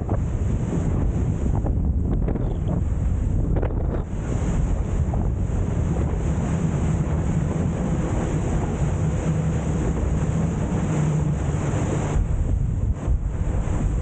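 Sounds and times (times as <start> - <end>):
boat engine hum: 0.0 - 14.0
water rushing along hull: 0.0 - 14.0
wind buffeting microphone: 0.0 - 14.0.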